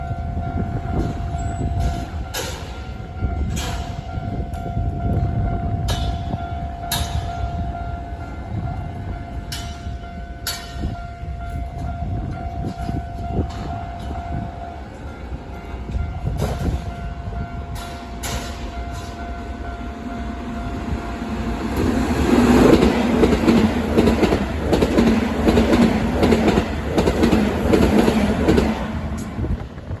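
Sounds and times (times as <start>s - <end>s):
train passing with wheel clatter: 0.0s - 30.0s.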